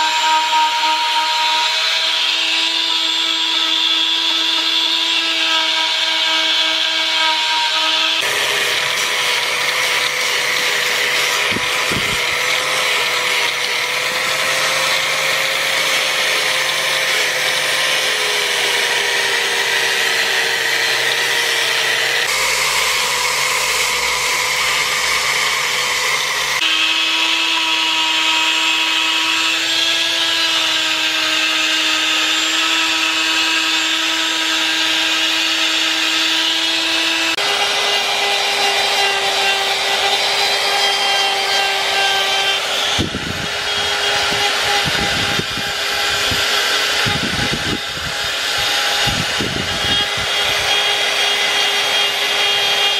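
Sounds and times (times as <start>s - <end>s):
angle grinder sanding wood: 0.0s - 52.9s
rotary grinder carving wood: 0.0s - 52.9s.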